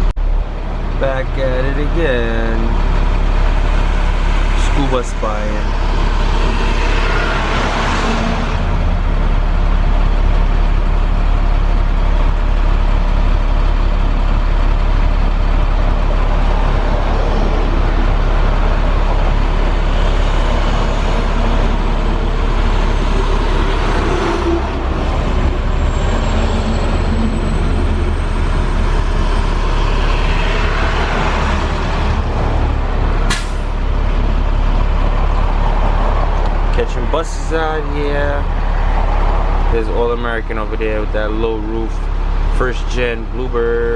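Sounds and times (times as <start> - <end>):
vehicle engine hum and road noise: 0.0 - 43.9.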